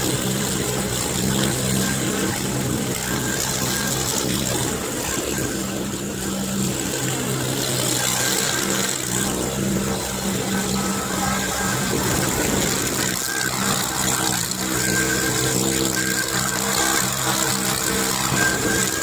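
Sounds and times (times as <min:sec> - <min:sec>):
skid steer engine running: 0:00.0 - 0:19.0.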